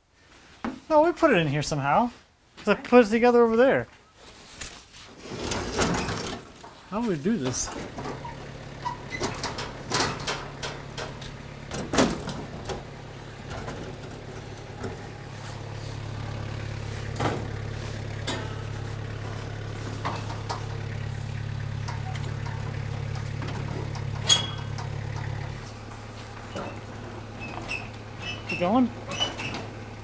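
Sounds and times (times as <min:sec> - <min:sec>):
loader engine idling: 0:05.2 - 0:30.0.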